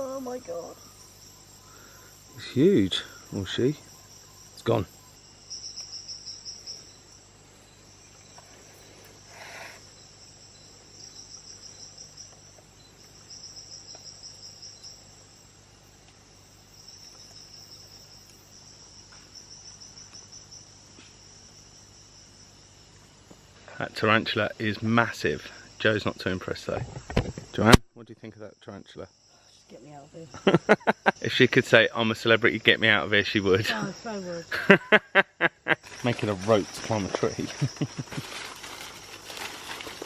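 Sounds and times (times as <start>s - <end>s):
insects chirping in pulsed trills: 0.0s - 40.0s.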